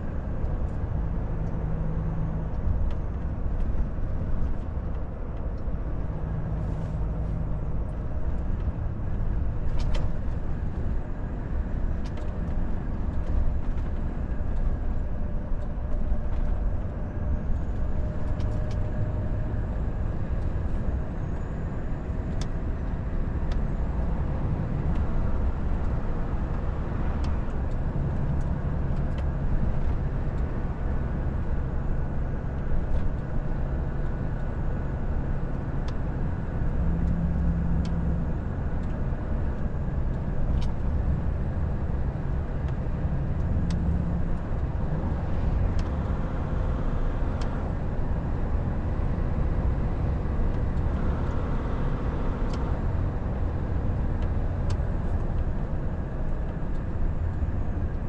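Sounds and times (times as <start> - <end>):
truck engine drone: 0.0 - 58.0
tyre and road noise: 0.0 - 58.0.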